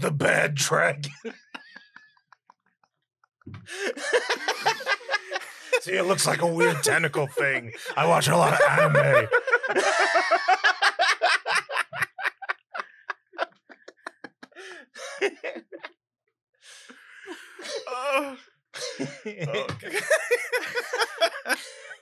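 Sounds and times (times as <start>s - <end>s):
people laughing hard: 0.0s - 2.7s, 3.6s - 15.9s, 16.7s - 18.0s, 18.9s - 22.0s.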